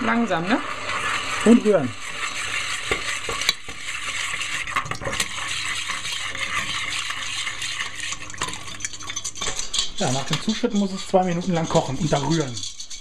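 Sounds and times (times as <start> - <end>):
liquid pouring splashing hiss: 0.0 - 12.3
whisk clicking against pot: 0.4 - 13.0.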